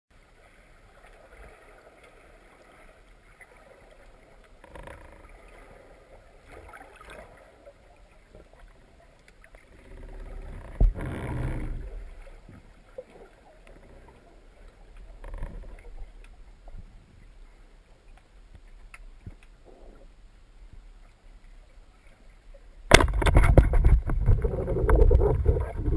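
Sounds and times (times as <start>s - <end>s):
underwater water noise: 0.1s - 25.9s
low rushing gurgle: 0.2s - 18.0s, 18.7s - 25.9s.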